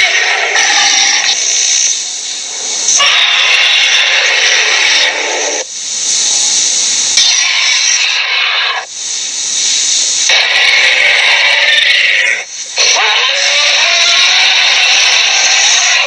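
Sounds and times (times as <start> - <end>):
hissing cartoon sound effects: 0.0 - 16.0.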